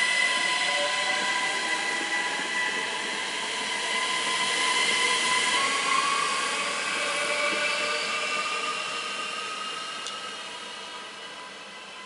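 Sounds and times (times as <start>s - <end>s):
electric train whine: 0.0s - 12.0s
train running hiss: 0.0s - 12.0s.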